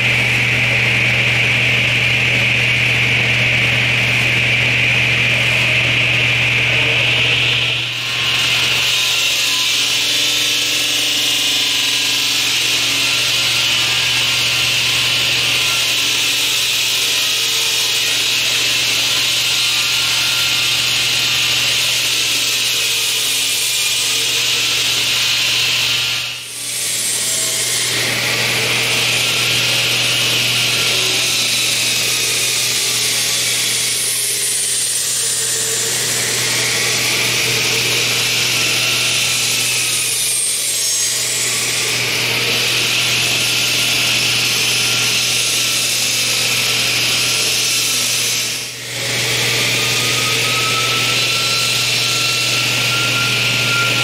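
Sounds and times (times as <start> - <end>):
saw blade grinding concrete: 0.0 - 54.0.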